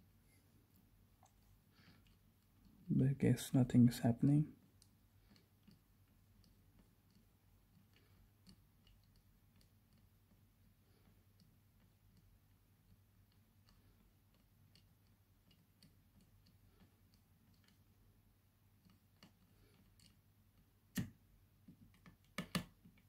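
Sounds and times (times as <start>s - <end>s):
faint ticks and small clicks: 0.6s - 3.0s, 4.5s - 23.0s.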